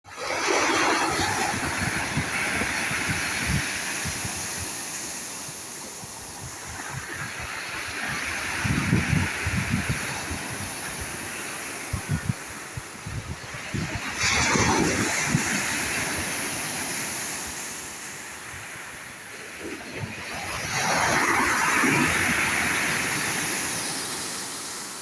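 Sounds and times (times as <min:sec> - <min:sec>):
sea waves breaking: 0:00.1 - 0:25.0
wind buffeting microphone: 0:00.4 - 0:24.6.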